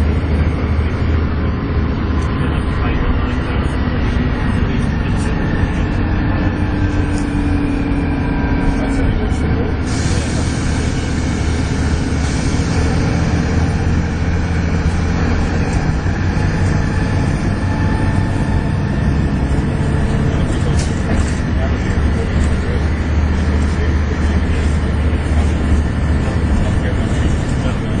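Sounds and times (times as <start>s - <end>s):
bus engine with whine: 0.0s - 28.0s.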